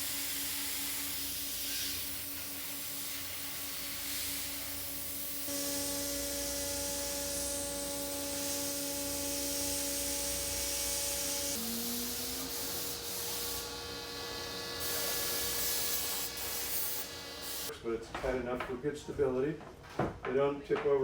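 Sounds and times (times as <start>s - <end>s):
mechanical hum with hiss: 0.0s - 17.9s.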